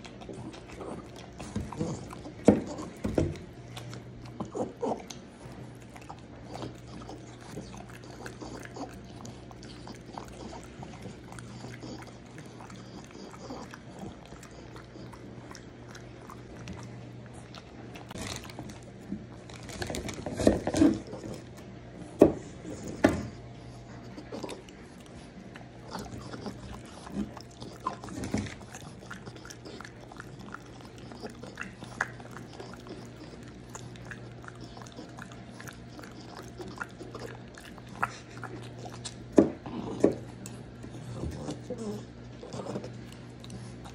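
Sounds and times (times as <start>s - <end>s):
dog crunching apple: 0.0s - 43.9s
faint low hum: 0.0s - 43.9s.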